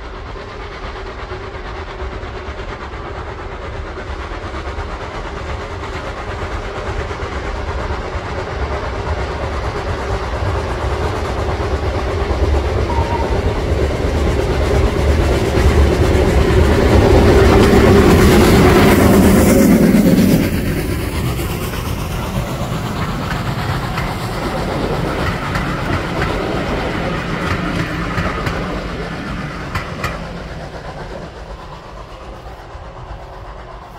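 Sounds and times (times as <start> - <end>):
steam hissing: 0.0 - 33.9
steam locomotive passing: 0.0 - 33.9.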